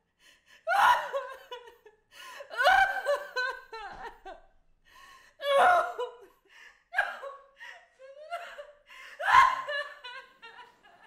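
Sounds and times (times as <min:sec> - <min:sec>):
woman sobbing and wailing: 0:00.6 - 0:04.5, 0:05.2 - 0:11.0.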